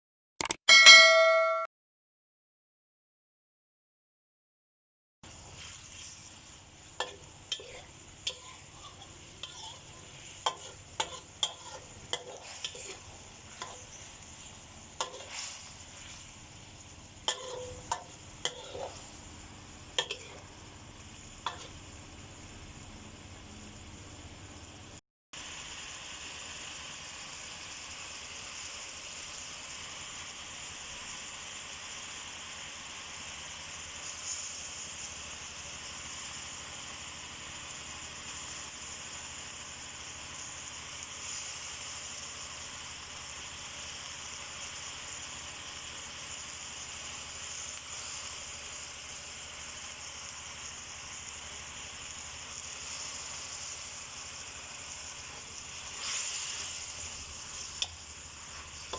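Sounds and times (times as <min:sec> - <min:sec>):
food sizzling in a pan: 0:05.2 - 0:58.9.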